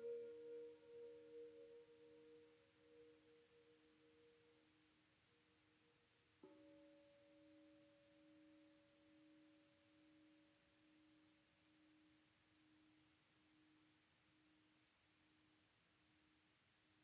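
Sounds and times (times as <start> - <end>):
low sustained tone: 0.0 - 15.8.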